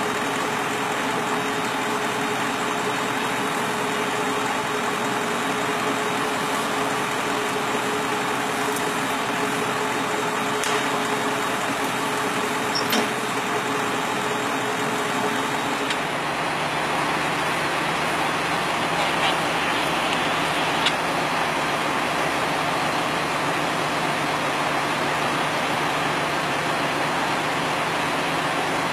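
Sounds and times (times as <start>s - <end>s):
constant hum: 0.0s - 28.1s
continuous hiss: 0.0s - 28.9s
fire engine engine running: 0.0s - 28.9s.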